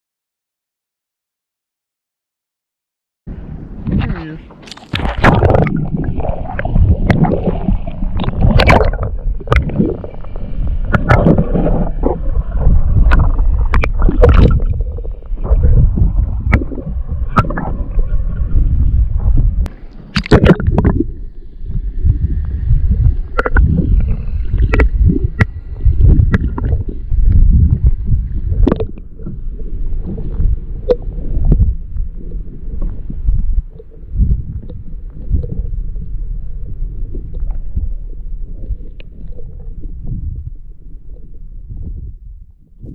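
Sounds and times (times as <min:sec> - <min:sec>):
water sloshing against hull: 0:03.6 - 0:42.2.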